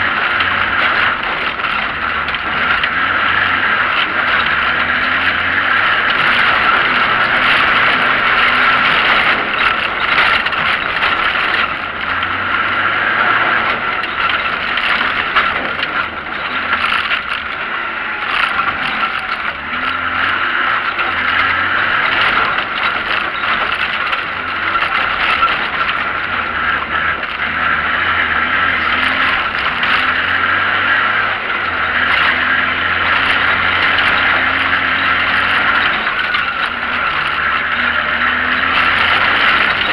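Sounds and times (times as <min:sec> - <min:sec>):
car engine running: 0:00.0 - 0:39.9
tyres rattling over dirt: 0:00.0 - 0:39.9.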